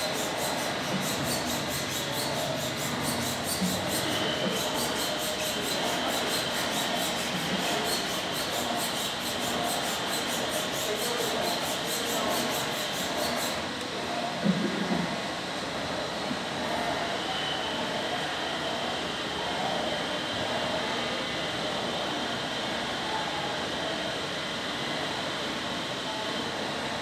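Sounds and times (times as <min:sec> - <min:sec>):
steady pulsing hiss: 0:00.0 - 0:27.0.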